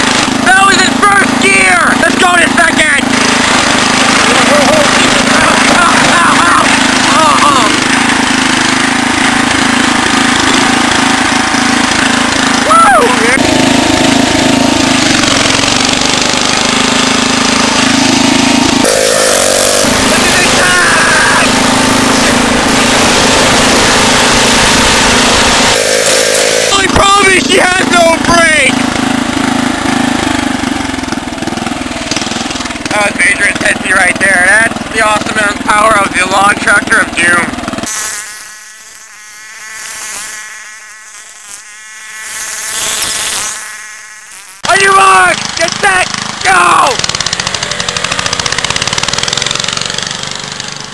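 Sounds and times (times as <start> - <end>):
lawn tractor engine running: 0.0 - 50.9.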